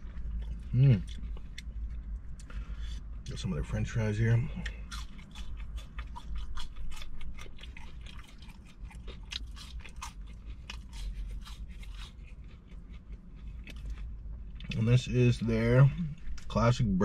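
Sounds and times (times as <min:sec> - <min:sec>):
chewing crunchy fries: 0:00.0 - 0:16.6.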